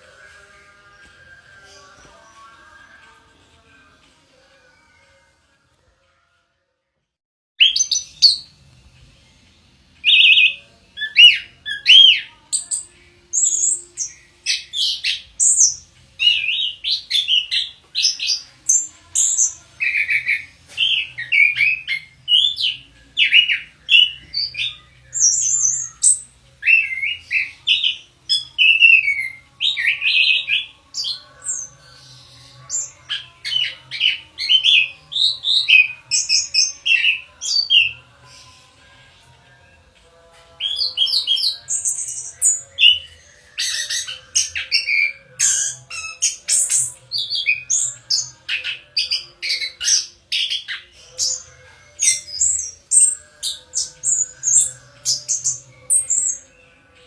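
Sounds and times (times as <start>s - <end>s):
thrush singing whistled phrases: 7.6s - 8.5s, 10.0s - 38.9s, 40.6s - 56.6s.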